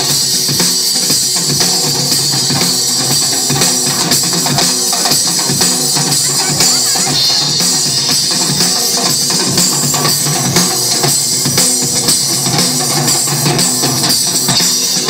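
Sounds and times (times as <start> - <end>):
drum kit beat: 0.0 - 15.0
guitar: 0.0 - 15.0
live band playing: 0.0 - 15.0.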